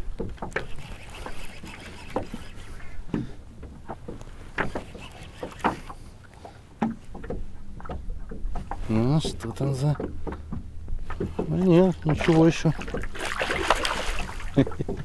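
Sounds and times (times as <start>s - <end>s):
knocks and clicks in boat: 0.0s - 15.0s
water sloshing against boat hull: 0.0s - 15.0s.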